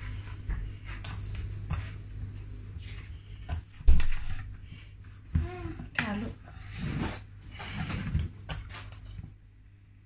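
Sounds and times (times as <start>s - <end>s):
hands kneading dough in a bowl: 0.0s - 9.4s
steady low hum: 0.0s - 10.0s.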